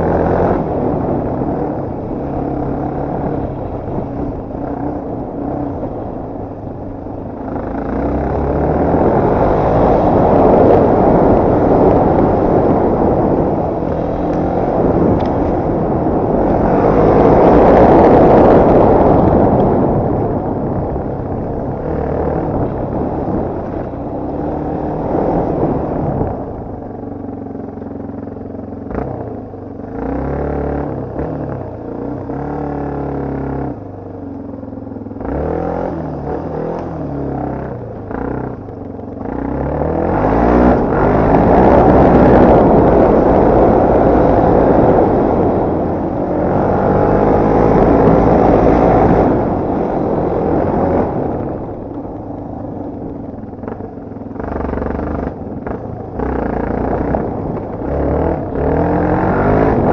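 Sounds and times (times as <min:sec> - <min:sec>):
off-road motorcycle engine revving: 0:00.0 - 0:59.9.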